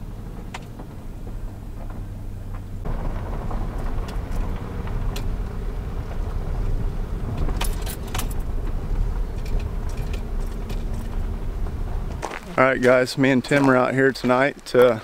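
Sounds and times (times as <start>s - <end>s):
engine and tyre rumble: 0.0s - 15.0s
rattles and sharp clicks: 0.2s - 12.4s.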